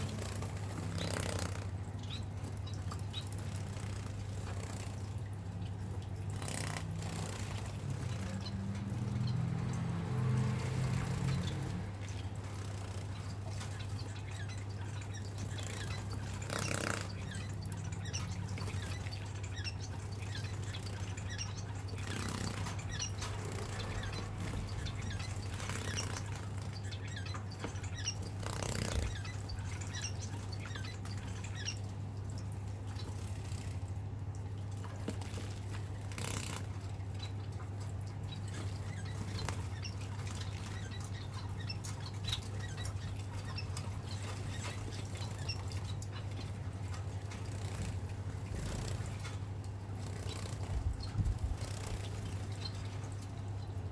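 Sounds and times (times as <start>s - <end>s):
water splashing: 0.0s - 53.9s
wings fluttering: 0.0s - 53.9s.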